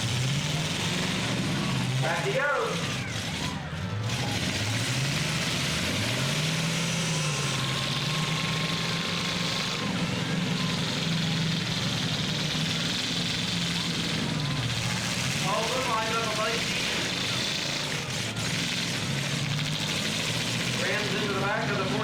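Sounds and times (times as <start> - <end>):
engines roaring: 0.0 - 22.0
truck engine revving: 0.0 - 22.0.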